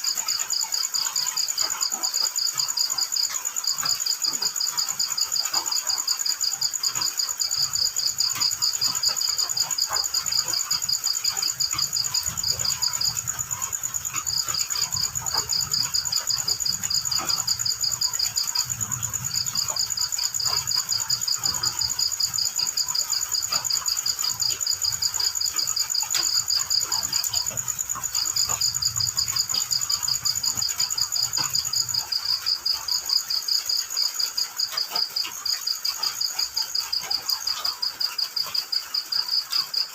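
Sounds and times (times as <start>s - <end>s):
crickets chirping: 0.0s - 39.9s
high-pitched insect whine: 0.0s - 39.9s.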